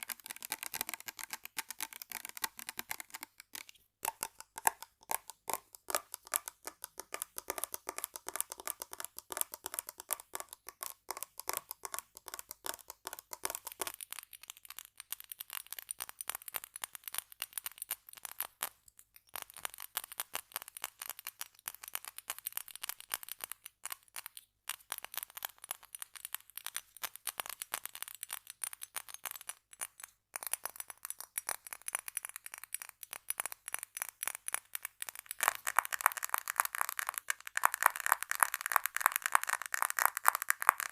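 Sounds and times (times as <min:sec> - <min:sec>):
rapid tapping on small objects: 0:00.0 - 0:40.9.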